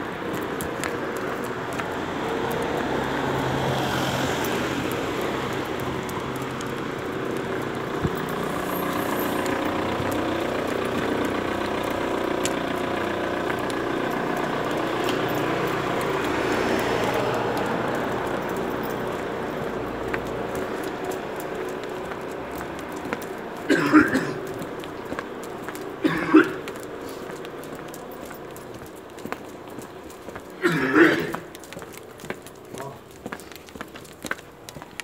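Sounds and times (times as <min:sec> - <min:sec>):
vehicle engine running: 0:00.0 - 0:35.0
faint ticks: 0:00.3 - 0:30.6.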